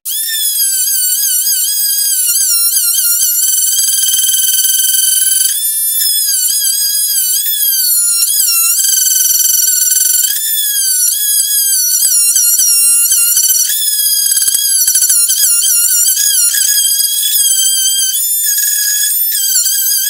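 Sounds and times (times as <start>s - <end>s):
oscillating saw cutting wood: 0.1s - 20.0s.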